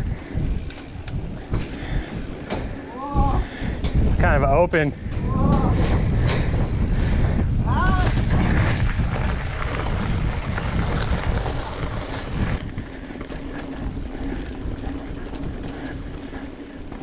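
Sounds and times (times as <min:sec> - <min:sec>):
bike tyres rolling on gravel: 0:00.0 - 0:05.4, 0:06.1 - 0:17.0
wind on microphone: 0:00.0 - 0:17.0.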